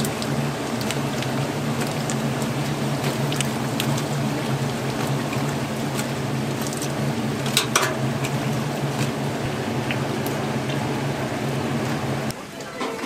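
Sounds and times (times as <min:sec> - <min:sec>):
food sizzling in hot oil: 0:00.0 - 0:12.3.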